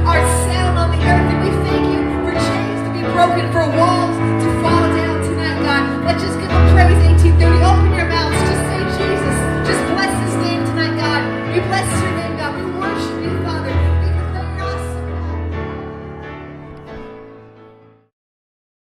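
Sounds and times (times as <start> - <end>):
sustained bass notes: 0.0 - 17.5.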